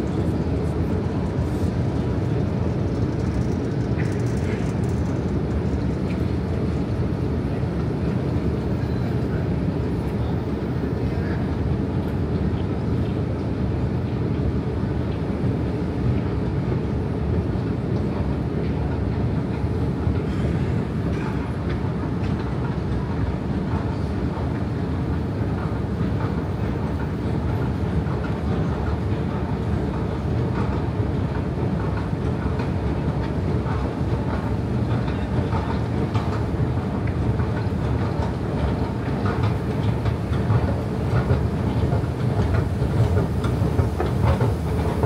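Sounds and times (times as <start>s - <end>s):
escalator rumbling and clattering: 0.0s - 45.0s.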